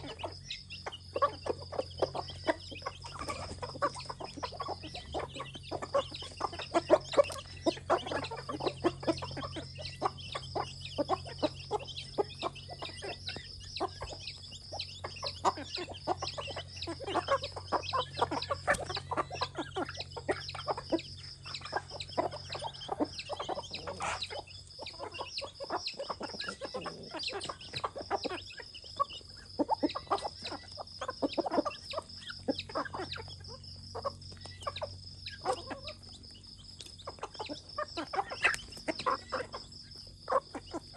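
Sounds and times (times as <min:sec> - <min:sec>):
chickens clucking: 0:00.0 - 0:40.9
chickens pecking: 0:00.0 - 0:40.9.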